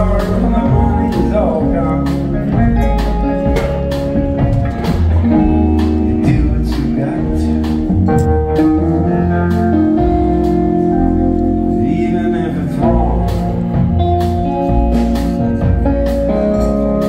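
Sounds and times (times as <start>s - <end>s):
drums: 0.0s - 17.0s
electric guitar: 0.0s - 17.0s
keyboard holding chords: 0.0s - 17.0s.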